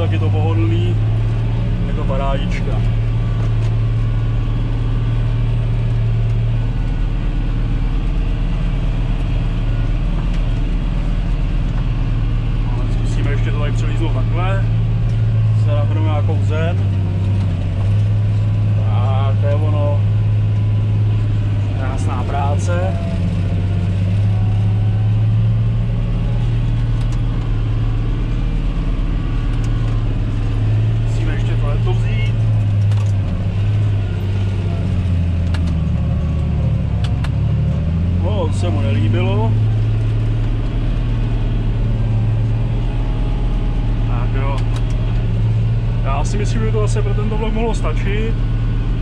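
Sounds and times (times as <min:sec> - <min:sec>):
tractor diesel engine drone: 0:00.0 - 0:49.0.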